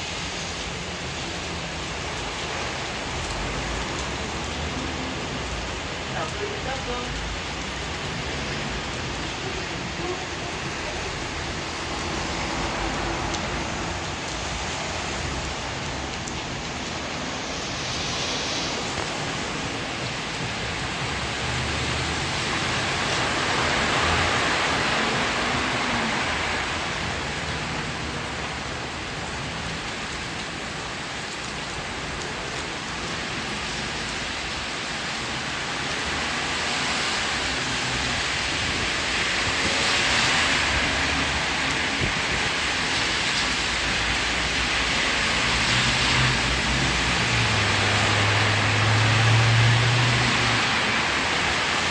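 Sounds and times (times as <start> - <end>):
gusting wind: 0.0 - 51.9
rain: 0.0 - 51.9.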